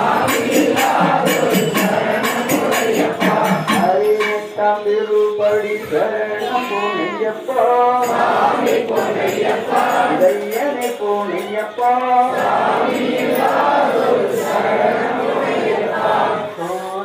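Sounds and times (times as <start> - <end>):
crowd chanting and singing: 0.0 - 17.0.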